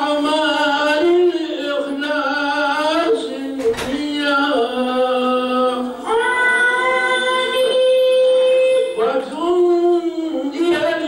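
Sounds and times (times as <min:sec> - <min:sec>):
devotional chant with held notes: 0:00.0 - 0:11.0.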